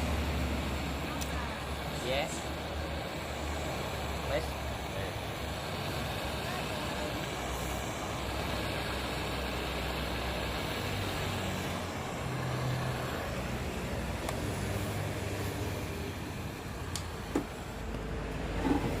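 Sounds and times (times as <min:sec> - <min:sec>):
noisy background: 0:00.0 - 0:19.0
vehicle engine running: 0:00.0 - 0:19.0.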